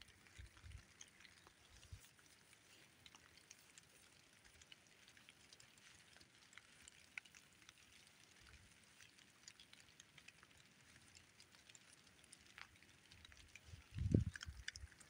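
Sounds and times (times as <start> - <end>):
light ticks: 0.0 - 15.0.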